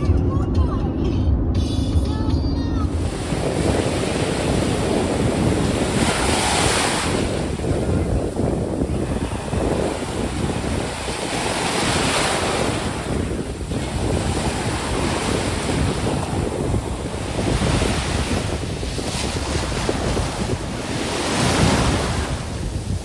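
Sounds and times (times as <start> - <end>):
wind rumbling on microphone: 2.7 - 23.0
ocean surf breaking: 2.9 - 23.0.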